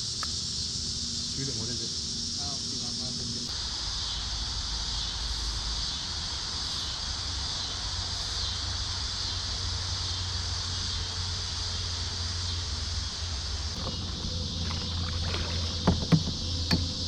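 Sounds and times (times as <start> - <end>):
insects droning: 0.0 - 17.0
low steady rumble: 0.0 - 17.0.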